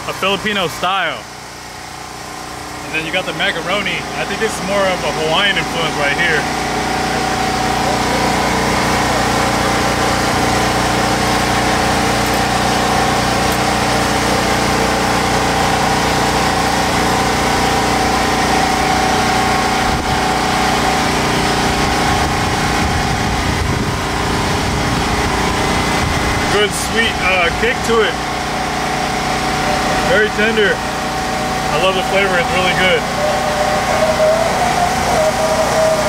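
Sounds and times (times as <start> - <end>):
engine idling: 0.0 - 36.0.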